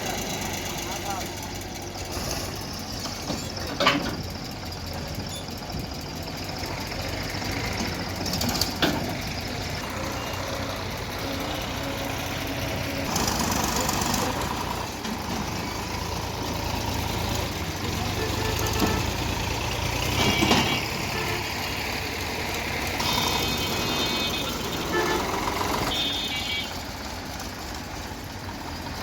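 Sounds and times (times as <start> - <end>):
diesel engines running: 0.0 - 29.0.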